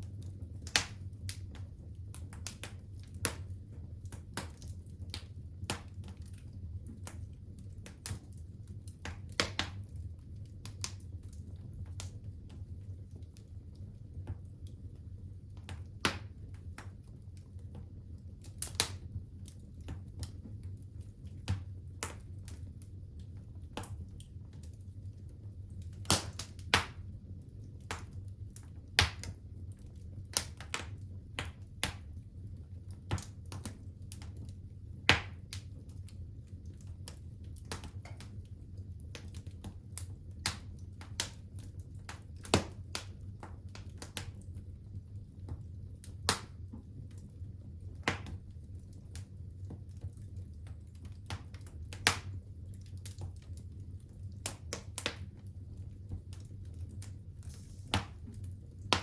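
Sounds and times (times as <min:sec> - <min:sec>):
fire crackling and popping: 0:00.0 - 0:59.0
low rumble of fire: 0:00.0 - 0:59.0.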